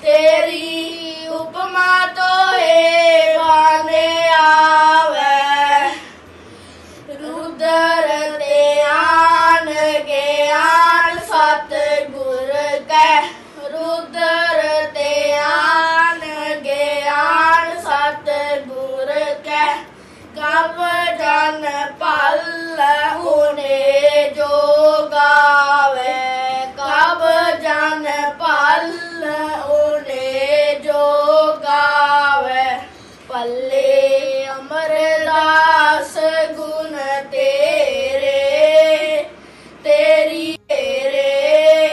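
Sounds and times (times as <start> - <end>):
boys singing a hymn: 0.0 - 6.3, 7.0 - 41.9.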